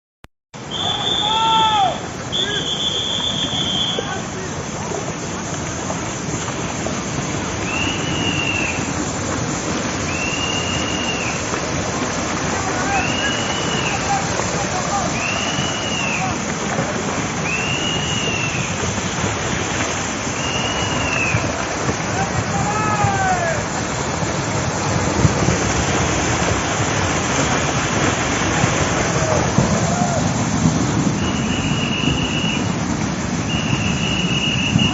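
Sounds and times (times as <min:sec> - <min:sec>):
floodwater rushing: 0:00.6 - 0:34.9.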